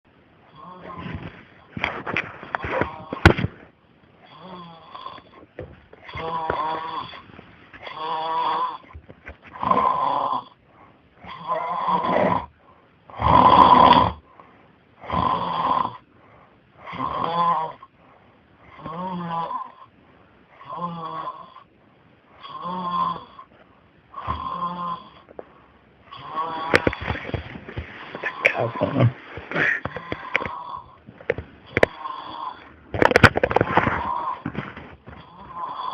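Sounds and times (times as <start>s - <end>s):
person snoring loudly: 0.5s - 3.6s, 4.2s - 10.6s, 11.2s - 14.3s, 15.0s - 16.1s, 16.8s - 17.9s, 18.7s - 19.9s, 20.6s - 21.7s, 22.4s - 23.5s, 24.2s - 25.3s, 26.1s - 35.9s.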